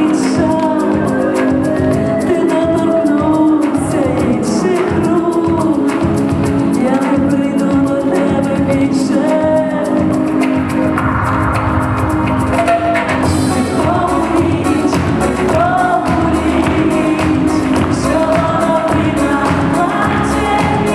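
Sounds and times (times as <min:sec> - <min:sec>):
woman singing over a beat: 0:00.0 - 0:10.9, 0:13.2 - 0:20.9.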